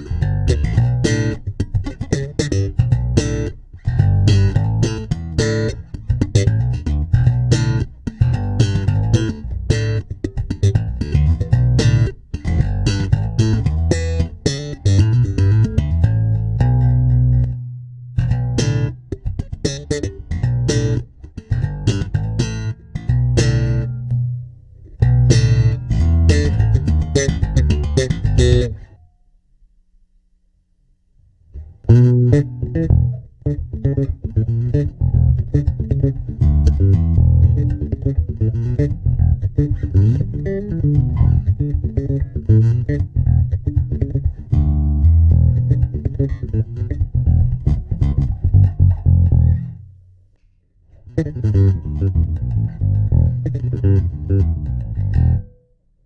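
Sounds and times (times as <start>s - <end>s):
electric bass guitar riffs: 0.0s - 29.1s, 31.5s - 50.0s, 50.9s - 55.7s.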